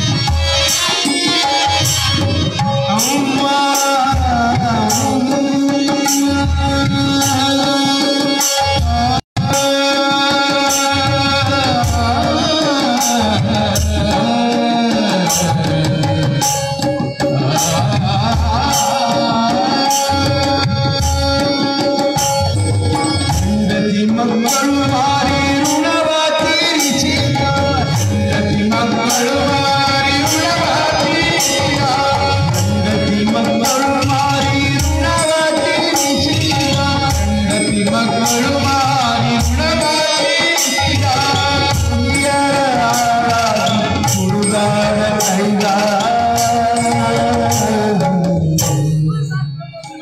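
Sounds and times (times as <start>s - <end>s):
harmonium drone: 0.0s - 50.0s
man singing: 0.0s - 50.0s
tabla rhythm: 0.0s - 50.0s.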